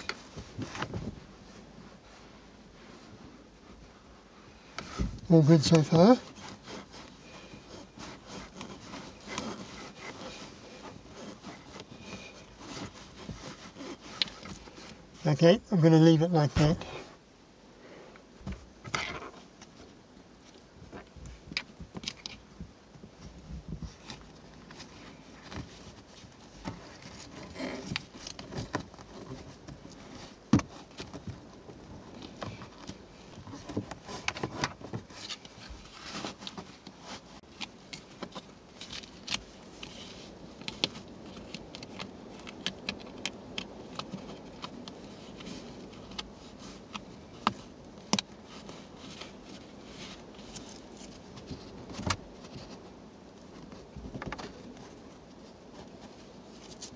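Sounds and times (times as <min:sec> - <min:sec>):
fabric rustling and scraping: 0:00.0 - 0:17.3, 0:18.3 - 0:56.9.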